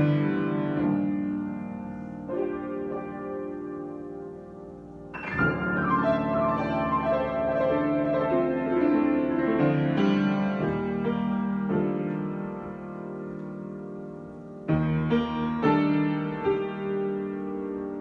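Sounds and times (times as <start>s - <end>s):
solo piano chords: 0.0s - 18.0s.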